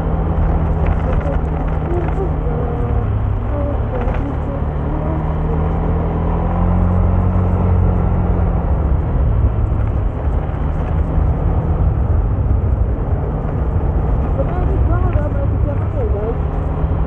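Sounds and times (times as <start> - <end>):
road and wind noise: 0.0 - 17.0
vehicle engine hum: 0.0 - 17.0.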